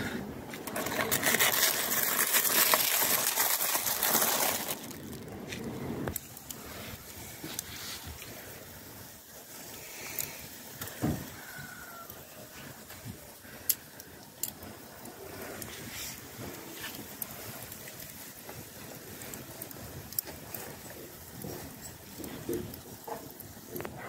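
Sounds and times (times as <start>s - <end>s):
cling film crinkling: 0.5s - 24.0s.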